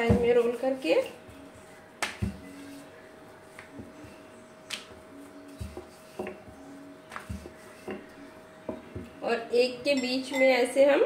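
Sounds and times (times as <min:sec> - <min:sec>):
rolling pin rolling dough: 0:00.0 - 0:09.2.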